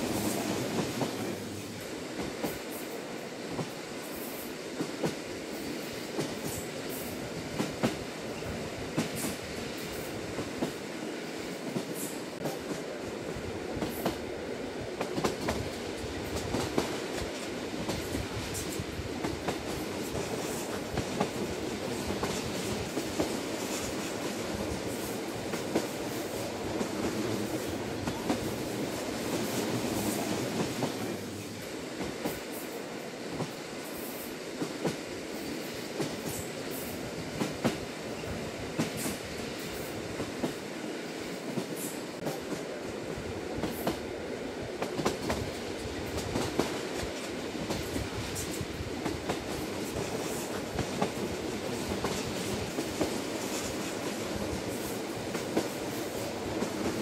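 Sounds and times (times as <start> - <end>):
train running: 0.0 - 57.0.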